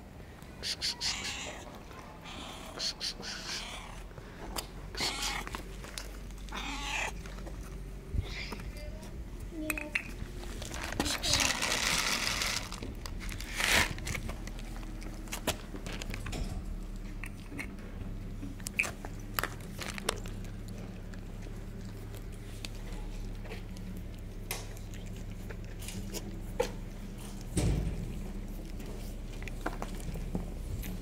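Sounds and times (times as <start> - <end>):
cat crunching dry kibble: 0.6 - 8.1, 10.3 - 30.3.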